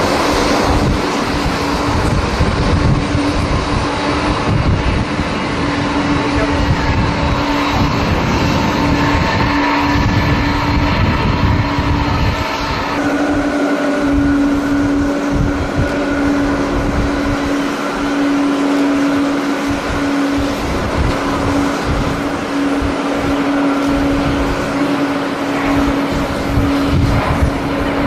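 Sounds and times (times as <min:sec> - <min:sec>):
jet engine hum: 0:00.0 - 0:28.0
wind buffeting microphone: 0:00.0 - 0:28.0.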